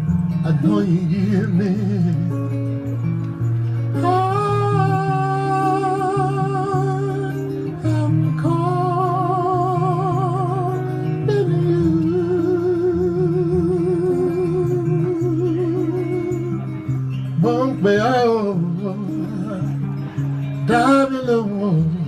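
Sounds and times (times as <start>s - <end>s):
bass and guitar: 0.0s - 22.0s
person singing with vibrato: 3.8s - 22.0s.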